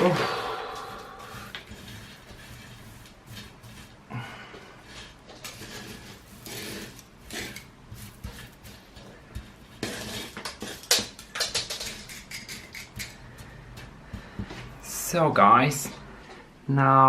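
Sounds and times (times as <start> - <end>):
rustling and scraping soil: 0.9 - 15.1.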